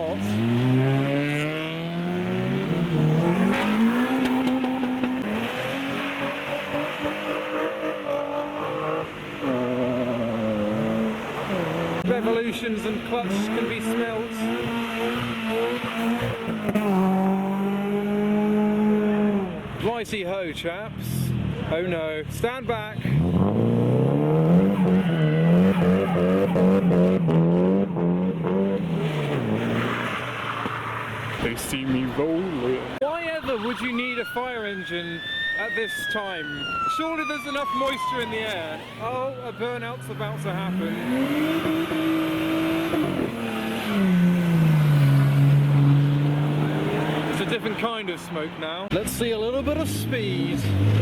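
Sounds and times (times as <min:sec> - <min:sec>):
car engine revving: 0:00.0 - 0:19.8, 0:21.0 - 0:34.6, 0:35.2 - 0:51.0
wheelspin on wet road: 0:00.2 - 0:19.2, 0:23.2 - 0:28.0, 0:28.8 - 0:48.7.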